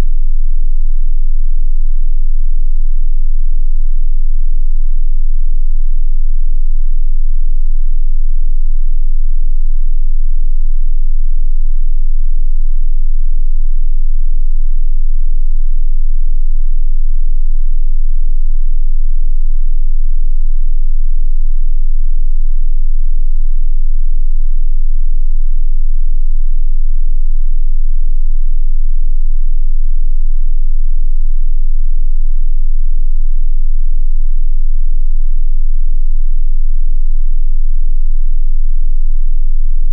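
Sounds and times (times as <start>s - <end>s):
infrasonic sine tone hum: 0.0s - 39.9s.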